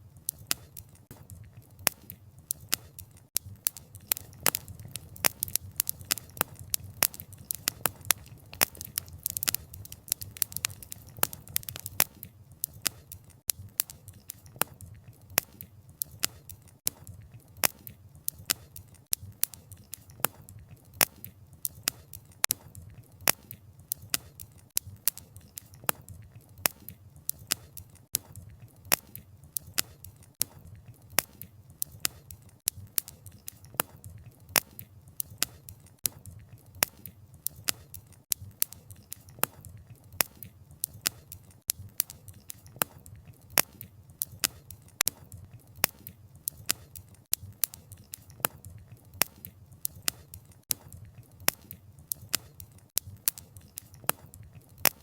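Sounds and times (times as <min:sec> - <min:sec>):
low rumble of flames: 0:00.1 - 0:55.0
logs popping and snapping: 0:00.2 - 0:26.0, 0:26.6 - 0:55.0.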